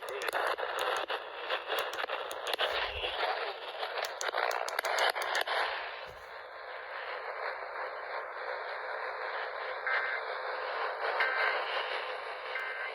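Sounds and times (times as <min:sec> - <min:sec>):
radio static hiss: 0:00.0 - 0:12.9.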